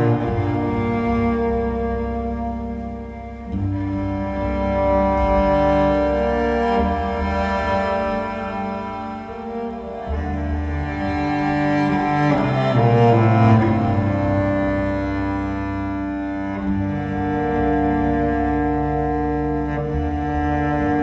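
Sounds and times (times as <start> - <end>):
bowed cello notes: 0.0 - 21.0.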